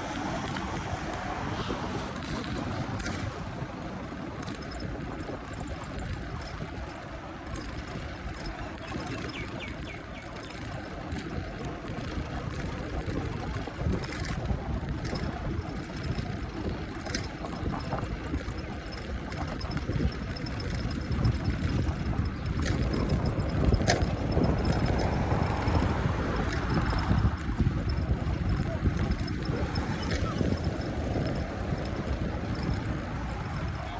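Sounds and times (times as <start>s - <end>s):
steady low city rumble: 0.0s - 33.9s.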